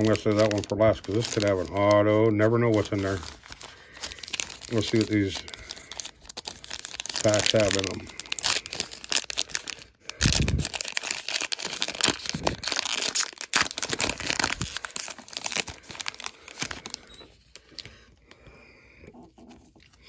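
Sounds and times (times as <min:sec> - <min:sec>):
wrapper tearing and crinkling: 0:00.0 - 0:17.9.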